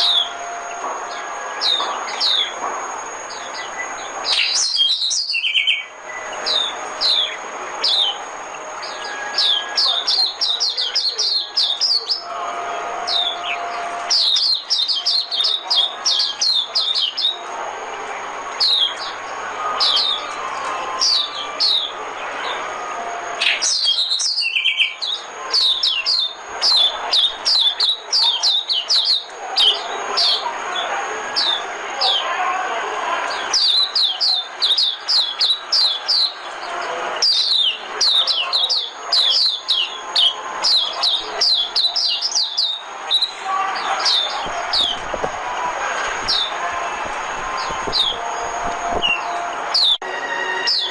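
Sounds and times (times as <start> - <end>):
bird chirping: 0.0 - 32.3, 33.3 - 45.3, 45.9 - 46.6, 47.3 - 50.0, 50.6 - 50.9
background murmur: 0.0 - 50.9.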